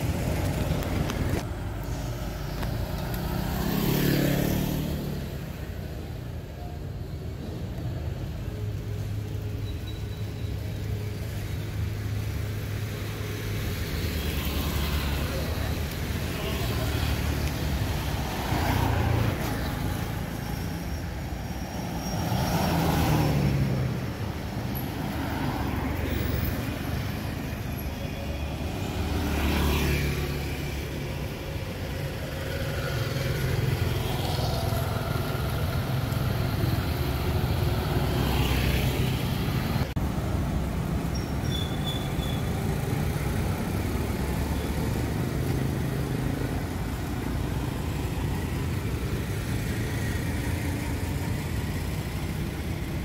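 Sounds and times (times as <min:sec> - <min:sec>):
traffic low rumble: 0:00.0 - 0:53.0
vehicles passing: 0:00.0 - 0:53.0.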